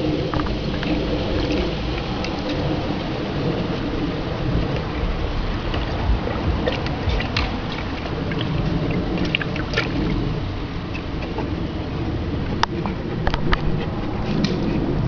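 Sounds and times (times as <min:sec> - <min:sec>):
low rumble: 0:00.0 - 0:15.0
water splashing in pool: 0:00.0 - 0:15.0.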